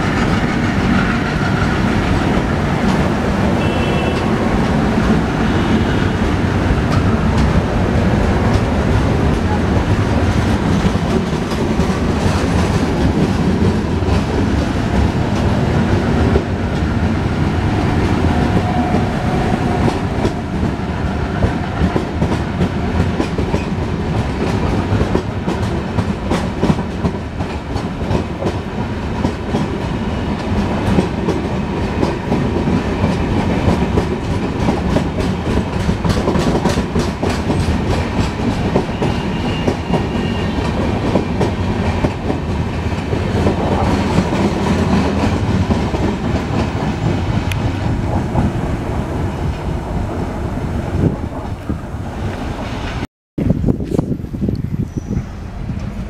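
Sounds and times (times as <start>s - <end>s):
train coaches rumbling past: 0.0s - 56.0s.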